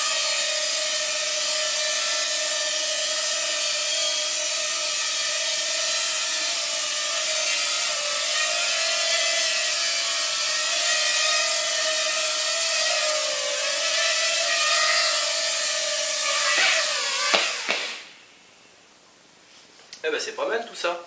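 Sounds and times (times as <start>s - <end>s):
quadcopter propellers whining: 0.0s - 18.1s.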